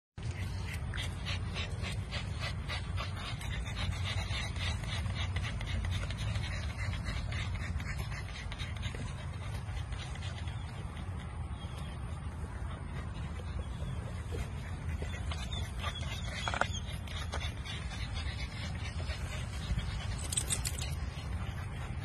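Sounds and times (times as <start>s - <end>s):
puppies panting fast: 0.2s - 22.0s.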